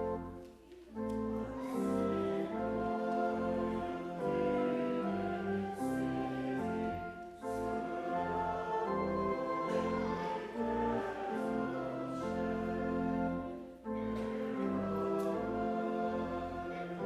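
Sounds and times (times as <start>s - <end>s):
church organ playing hymn: 0.0s - 17.0s.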